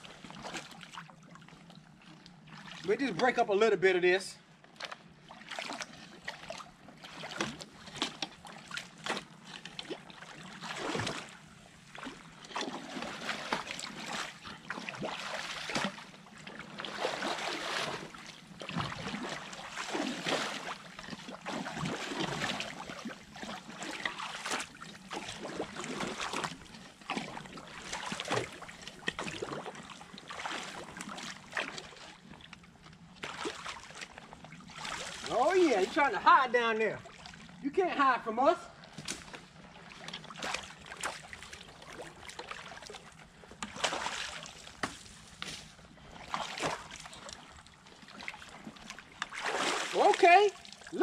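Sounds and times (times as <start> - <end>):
creek water splashing: 0.0 - 3.8, 4.7 - 51.0.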